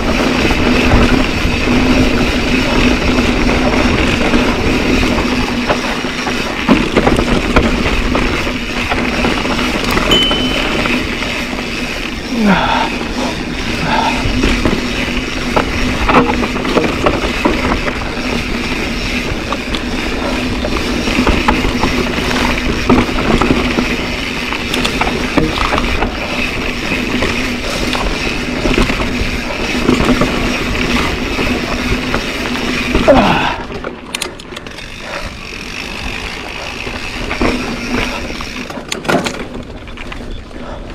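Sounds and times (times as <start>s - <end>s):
bike clicks and rattles: 0.0s - 40.9s
bike tyres on dirt: 0.0s - 40.9s.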